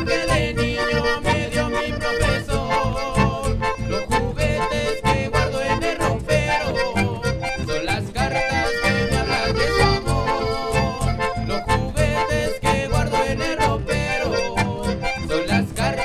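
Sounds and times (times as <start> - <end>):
steady low beat: 0.0 - 15.1
accordions playing melody: 0.0 - 16.0
strummed guitar: 0.0 - 16.0.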